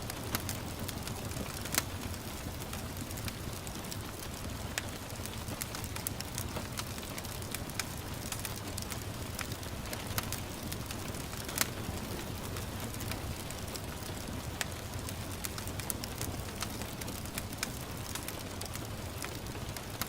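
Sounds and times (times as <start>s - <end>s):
gentle rain hiss: 0.0s - 20.0s
wood fire crackling and popping: 0.0s - 20.0s.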